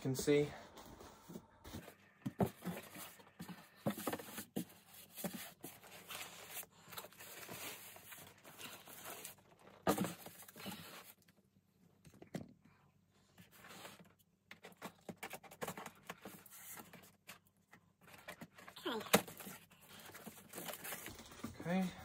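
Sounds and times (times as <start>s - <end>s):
cardboard rustling and scraping: 0.8s - 11.2s, 13.4s - 22.0s.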